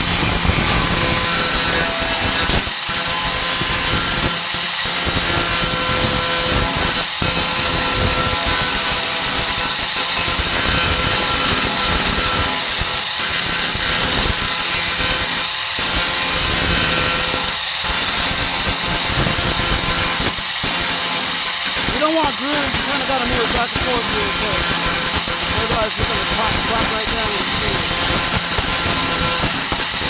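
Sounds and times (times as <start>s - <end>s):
angle grinder grinding steel: 0.0s - 30.0s.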